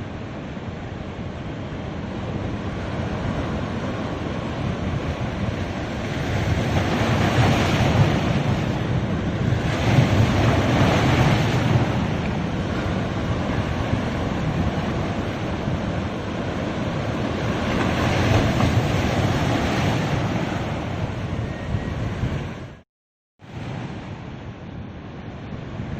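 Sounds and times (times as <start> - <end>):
sea waves breaking on beach: 0.0 - 21.4.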